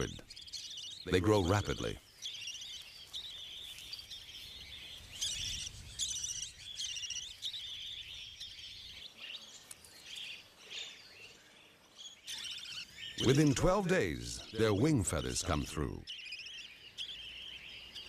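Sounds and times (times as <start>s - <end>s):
budgerigars chirping: 0.0s - 18.0s.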